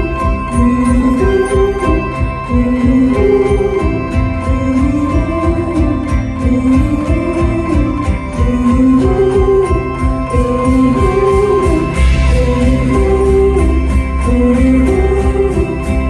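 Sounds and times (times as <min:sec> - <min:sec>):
live indie rock band: 0:00.0 - 0:16.0
steady drum beat: 0:00.0 - 0:16.0.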